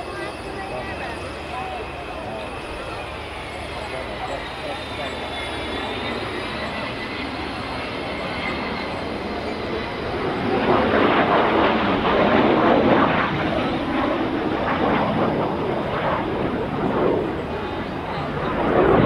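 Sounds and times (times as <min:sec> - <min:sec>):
jet bomber flying past: 0:00.0 - 0:19.0.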